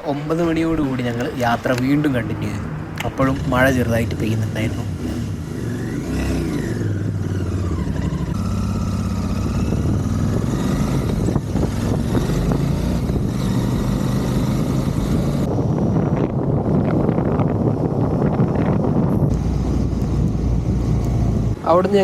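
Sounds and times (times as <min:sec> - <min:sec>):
motorcycle engine running: 0:03.2 - 0:21.8.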